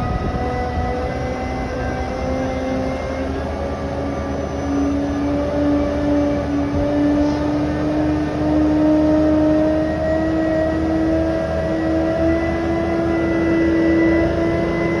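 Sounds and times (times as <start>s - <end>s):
fire truck engine running: 0.0s - 15.0s.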